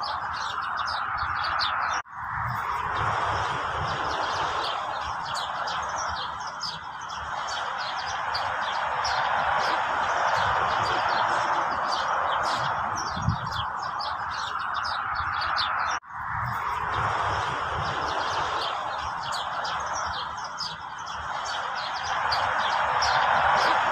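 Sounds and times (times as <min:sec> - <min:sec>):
songbirds chirping: 0:00.0 - 0:23.9.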